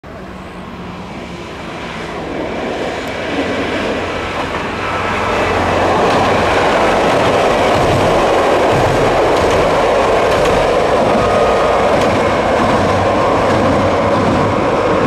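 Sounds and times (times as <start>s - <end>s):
diesel railcar passing: 0.0s - 15.0s.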